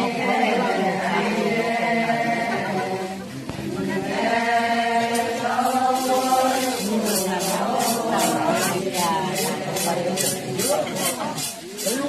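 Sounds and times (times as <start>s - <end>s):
group of voices chanting: 0.0s - 12.0s.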